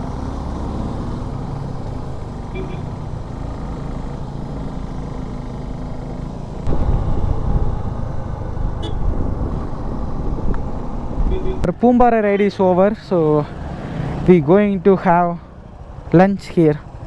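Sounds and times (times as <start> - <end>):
motorcycle engine running: 0.0 - 14.3, 15.4 - 17.0
road and wind noise: 0.0 - 17.0.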